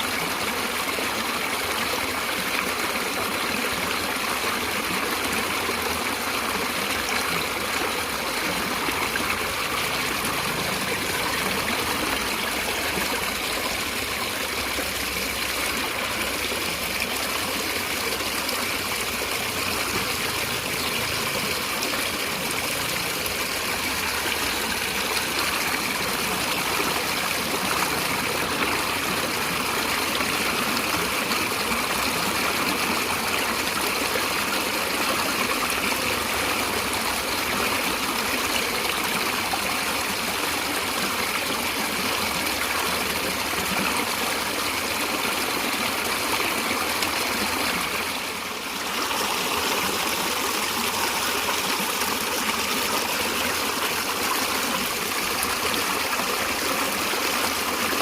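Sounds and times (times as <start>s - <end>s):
stream of water trickling: 0.0s - 58.0s.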